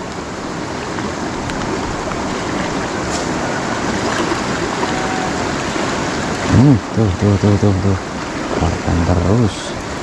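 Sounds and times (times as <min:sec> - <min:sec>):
river rushing over stones: 0:00.0 - 0:10.0.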